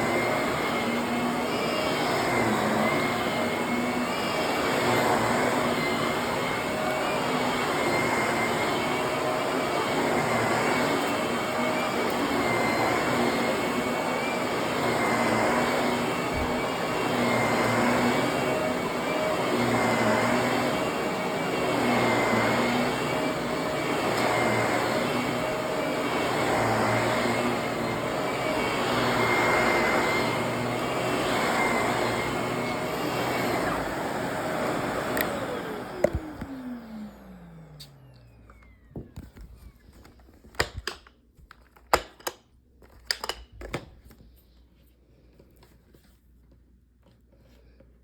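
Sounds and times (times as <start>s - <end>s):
vacuum cleaner running: 0.0s - 41.1s.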